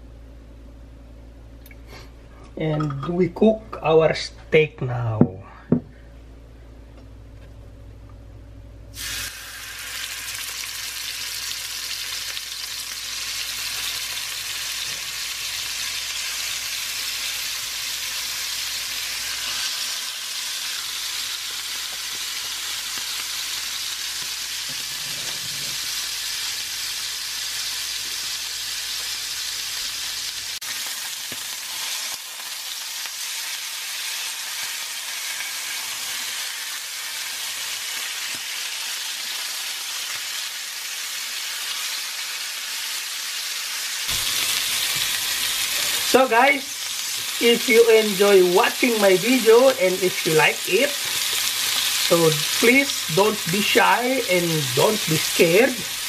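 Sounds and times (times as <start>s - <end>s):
steaks sizzling in a frying pan: 9.0s - 56.0s.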